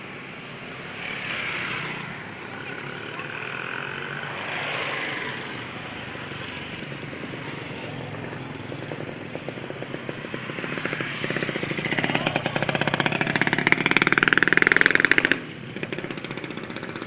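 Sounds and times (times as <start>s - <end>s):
motorcycle engine riding: 0.0s - 17.0s
road and wind noise: 0.0s - 17.0s.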